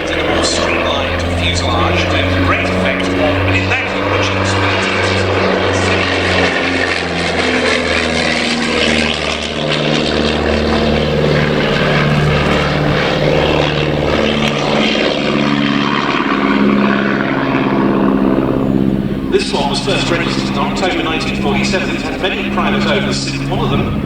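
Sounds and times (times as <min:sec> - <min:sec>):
propeller airplane engines: 0:00.0 - 0:24.0.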